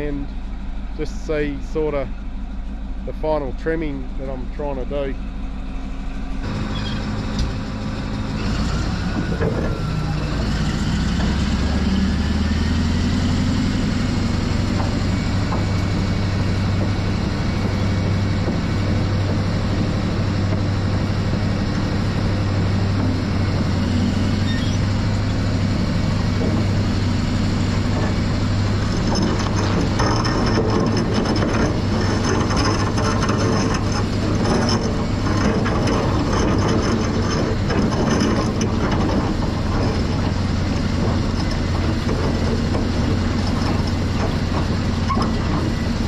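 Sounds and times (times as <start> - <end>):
bulldozer diesel engine working: 0.0 - 46.0.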